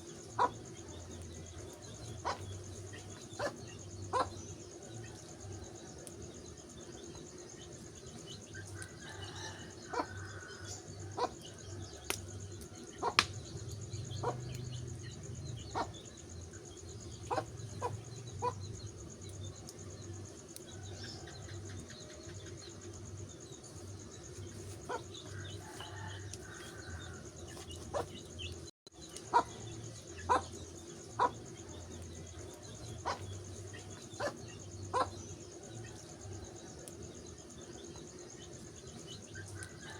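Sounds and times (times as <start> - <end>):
wood fire crackling: 0.0 - 15.4, 16.2 - 34.4.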